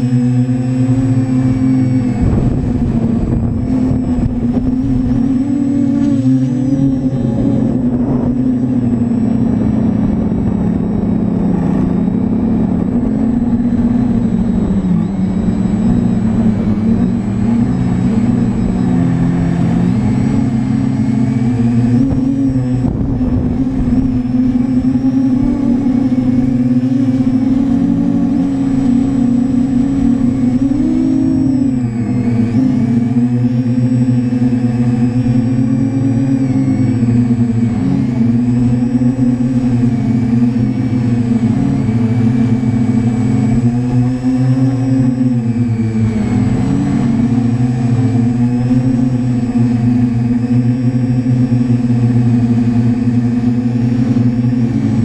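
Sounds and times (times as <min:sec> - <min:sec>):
drone motors buzzing: 0:00.0 - 0:55.0.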